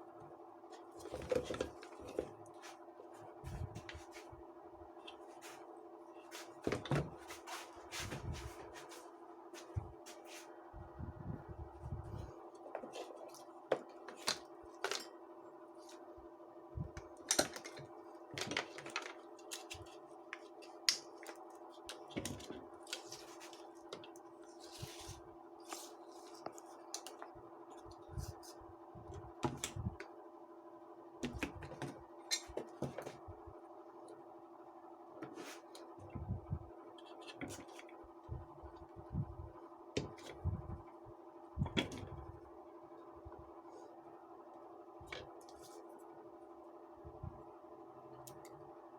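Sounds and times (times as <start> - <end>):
steady electrical hum: 0.0 - 48.9.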